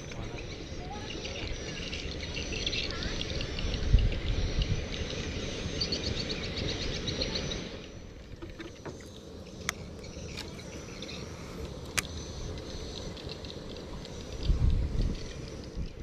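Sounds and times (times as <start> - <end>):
boat engine rumble: 0.0 - 16.0
rapid high chirping: 0.0 - 16.0.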